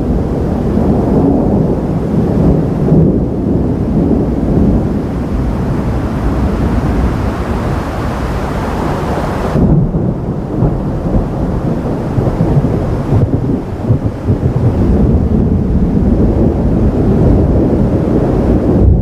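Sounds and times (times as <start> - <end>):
thunder rumbling: 0.0 - 19.0.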